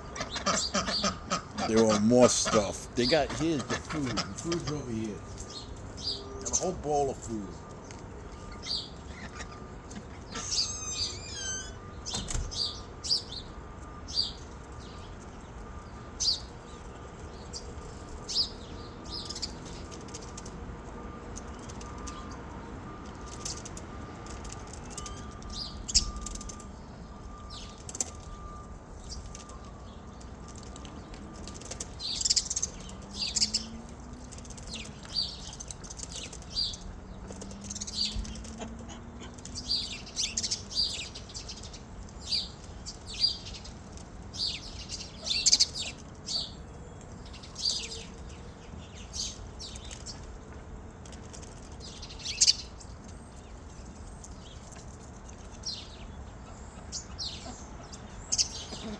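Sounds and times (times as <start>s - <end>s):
small birds chirping: 0.0s - 22.6s, 23.2s - 58.9s.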